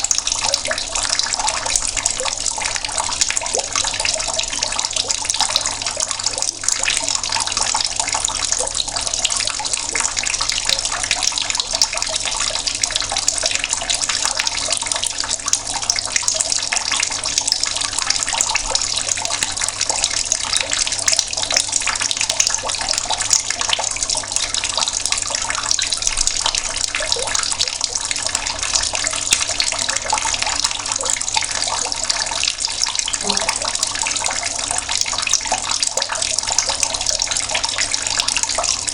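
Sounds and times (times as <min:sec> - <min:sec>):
tap water running and splashing: 0:00.0 - 0:38.9.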